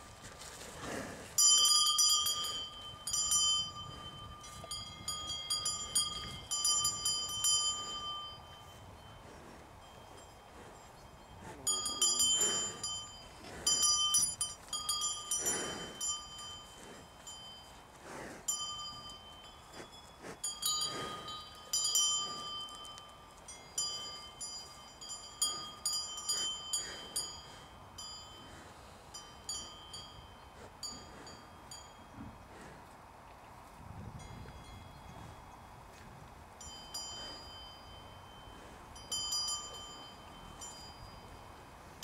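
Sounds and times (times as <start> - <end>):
cowbells clanking: 0.8 - 32.7, 36.6 - 42.0.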